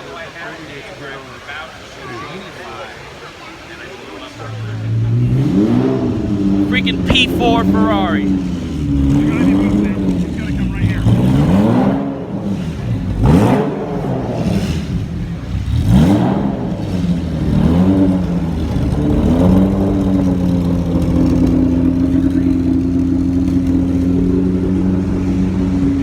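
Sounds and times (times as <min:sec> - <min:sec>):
sports car engine revving: 0:04.8 - 0:26.0.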